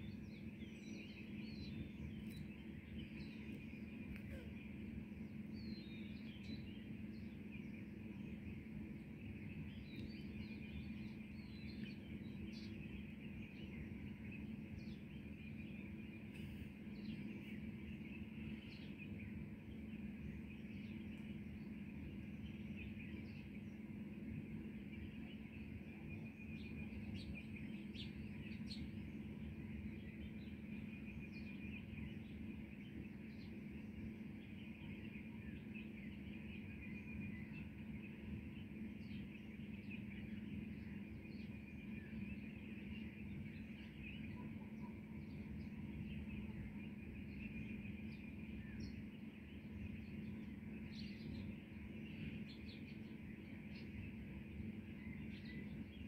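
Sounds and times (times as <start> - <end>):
birds chirping: 0.0 - 56.0
low background hum: 0.0 - 56.0.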